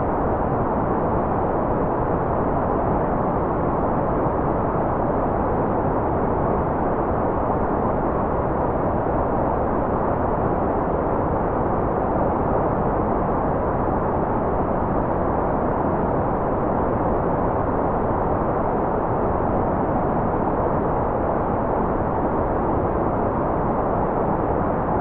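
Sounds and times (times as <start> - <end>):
muffled white noise: 0.0 - 25.0.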